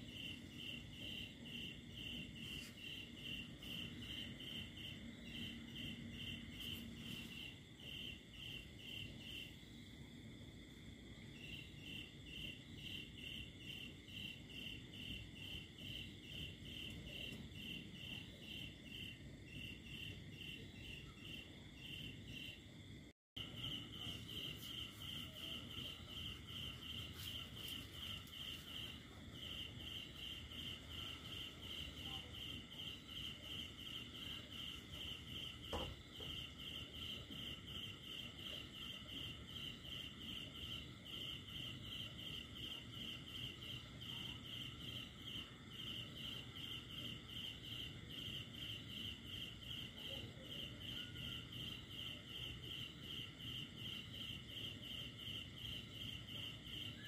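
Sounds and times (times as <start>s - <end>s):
continuous insect trill: 0.0s - 57.0s
crickets chirping: 0.0s - 57.0s.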